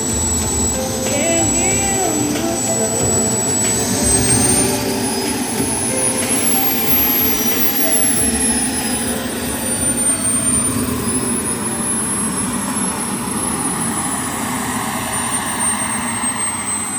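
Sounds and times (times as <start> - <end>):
jet engine running: 0.0 - 16.9.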